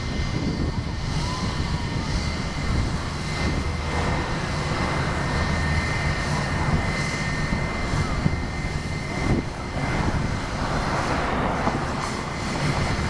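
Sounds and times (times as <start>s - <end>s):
aircraft engines running: 0.0s - 13.0s.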